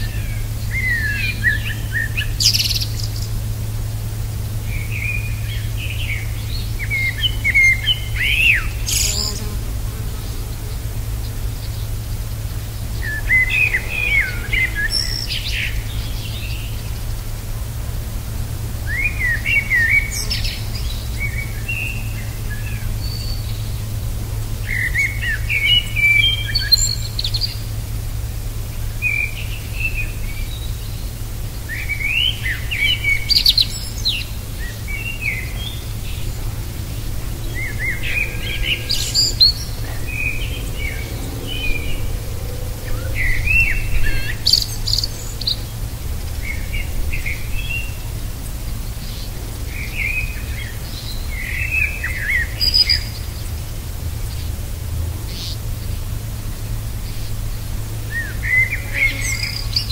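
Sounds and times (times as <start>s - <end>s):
songbird singing: 0.0s - 59.9s
steady low hum: 0.0s - 59.9s.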